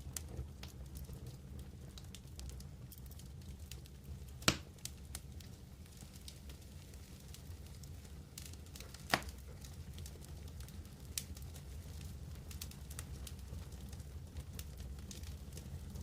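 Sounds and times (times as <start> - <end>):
campfire crackling: 0.0 - 16.0
fire popping: 0.0 - 16.0.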